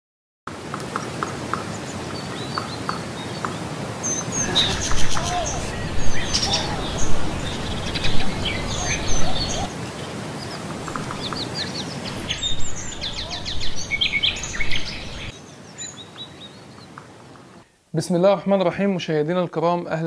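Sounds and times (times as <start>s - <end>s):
outdoor ambient hiss: 0.5s - 20.0s
songbirds chirping: 0.6s - 18.3s.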